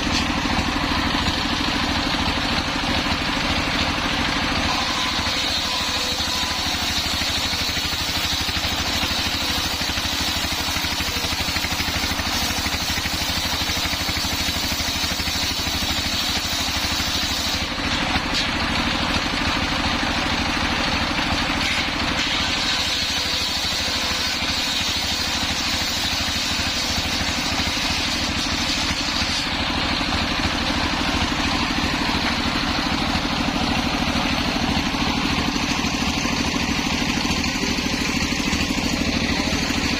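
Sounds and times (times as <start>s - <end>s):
engine hum: 0.0s - 13.2s, 14.0s - 39.9s
circular saw cutting log: 0.0s - 39.9s.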